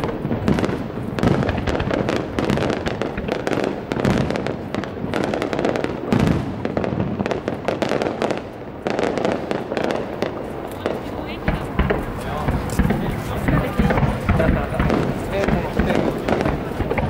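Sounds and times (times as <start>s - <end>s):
fireworks bangs and crackling: 0.0s - 17.0s
heavy firework booms: 0.0s - 17.0s.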